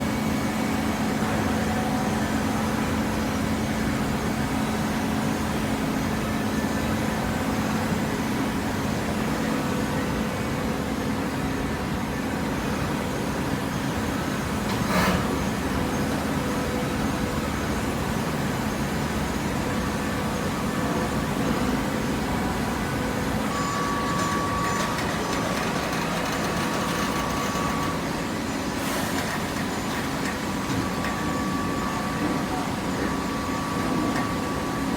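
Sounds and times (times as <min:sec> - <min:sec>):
high machine whine: 0:00.0 - 0:34.9
paper baler machine hum: 0:00.0 - 0:34.9.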